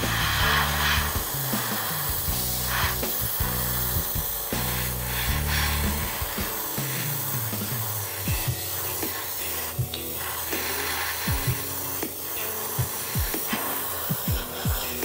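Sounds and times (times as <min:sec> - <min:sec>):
airbrush spraying hisses: 0:00.0 - 0:15.0
background music with bass line: 0:00.0 - 0:15.0.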